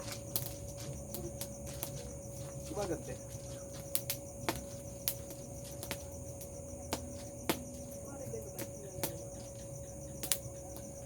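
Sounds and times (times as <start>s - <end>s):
bonfire crackling and popping: 0.0s - 11.0s
crickets chirping: 0.0s - 11.0s.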